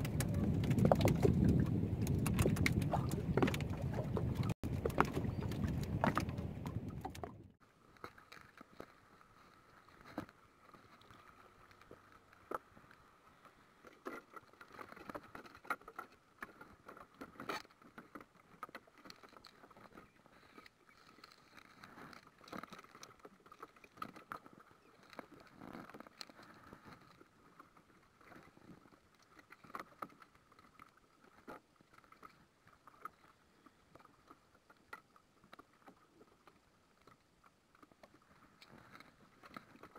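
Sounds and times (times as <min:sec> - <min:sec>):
water lapping against boat hull: 0:00.0 - 0:39.9.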